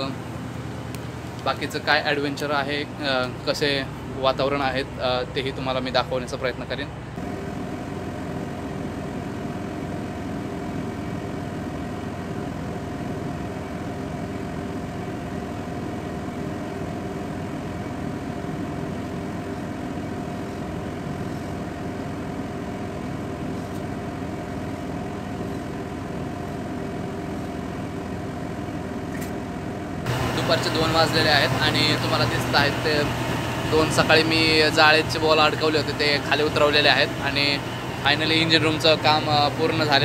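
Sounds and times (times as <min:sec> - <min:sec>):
ship engines humming: 0:00.0 - 0:40.0.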